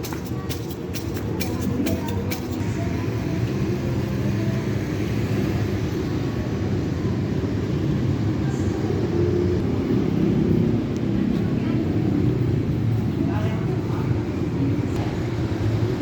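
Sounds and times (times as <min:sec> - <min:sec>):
low rumble of vehicle noise: 0:00.0 - 0:16.0.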